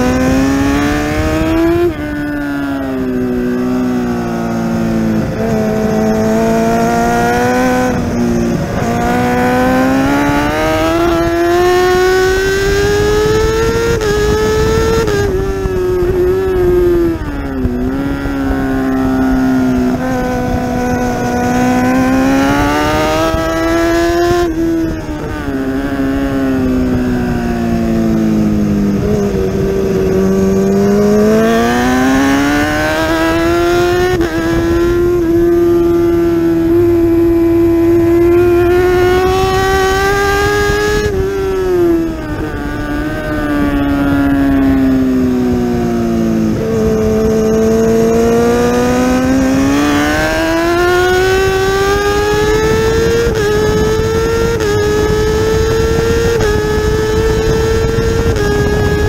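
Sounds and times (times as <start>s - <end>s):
quick gear upshifts: 0.0s - 59.0s
racing motorcycle engine revving: 0.0s - 59.0s.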